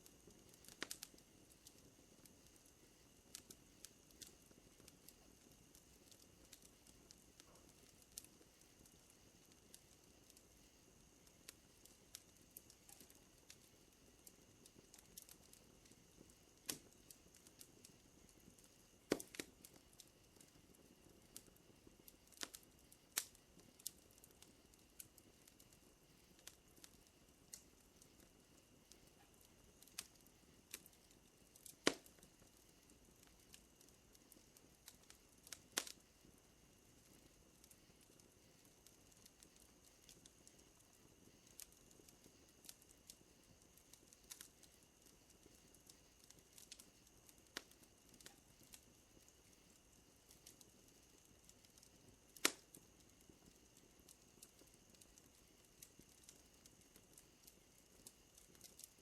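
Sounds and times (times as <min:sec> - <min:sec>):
sharp fire snaps: 0:00.0 - 0:59.0
wood fire crackling: 0:00.0 - 0:59.0.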